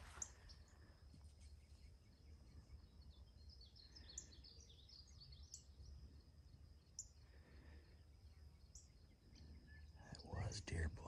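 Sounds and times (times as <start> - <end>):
bird chirps: 0.0 - 10.9
faint high insect-like tone: 0.0 - 11.0.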